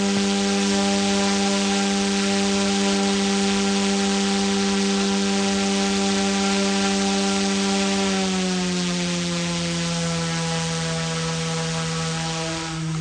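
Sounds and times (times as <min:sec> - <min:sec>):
rc helicopter motor whine: 0:00.0 - 0:13.0
rotor blades hissing: 0:00.0 - 0:13.0.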